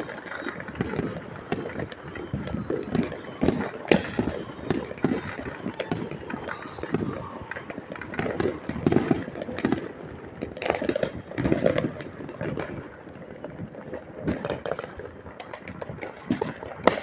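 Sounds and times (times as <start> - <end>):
fireworks crackling pops: 0.0 - 17.0.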